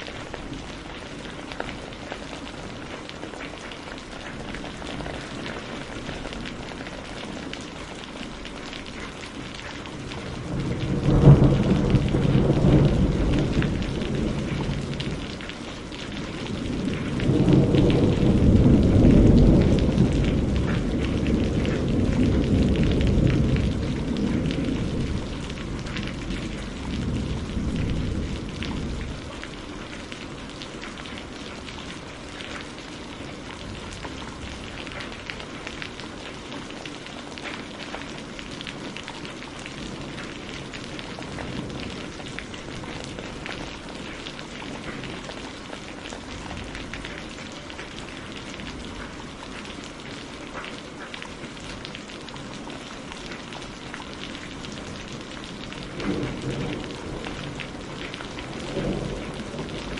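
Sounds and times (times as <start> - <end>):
thunder rumbling: 0.0 - 36.0, 37.6 - 49.5, 53.5 - 59.9
heavy rain: 0.0 - 59.9.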